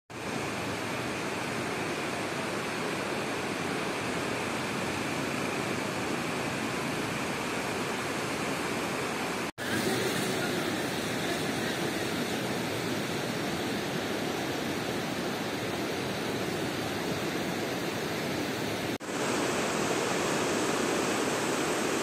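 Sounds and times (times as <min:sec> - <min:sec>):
river water rushing: 0:00.1 - 0:22.0.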